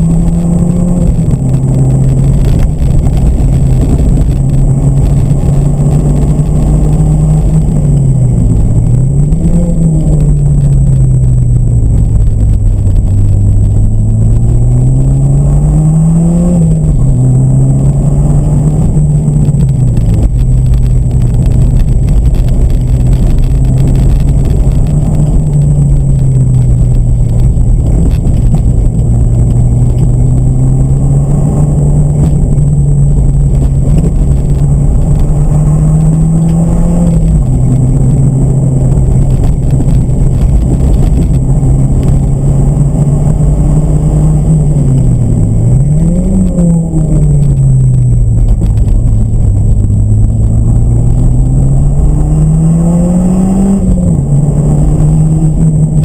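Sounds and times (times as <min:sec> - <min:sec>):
car engine revving: 0:00.0 - 0:56.0
heavy low rumble: 0:00.0 - 0:56.0.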